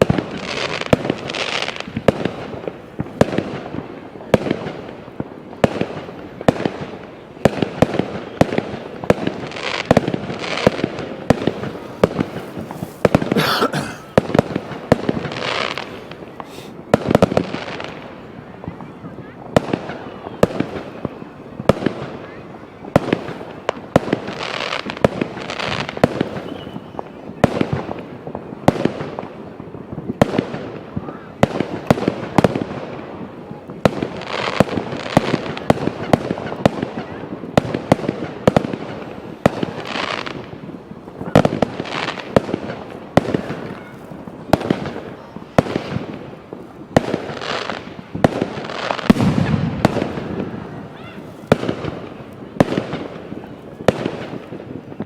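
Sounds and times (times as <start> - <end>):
fireworks bangs: 0.0 - 18.1, 22.9 - 55.0
fireworks crackling and hissing: 0.0 - 55.0.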